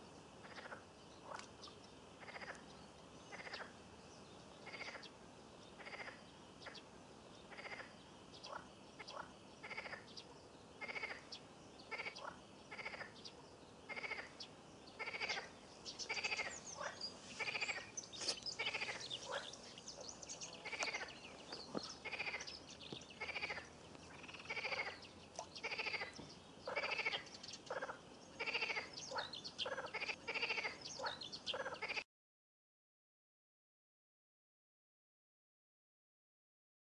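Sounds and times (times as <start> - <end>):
frogs croaking: 0.3 - 4.0, 4.6 - 6.9, 7.5 - 32.0.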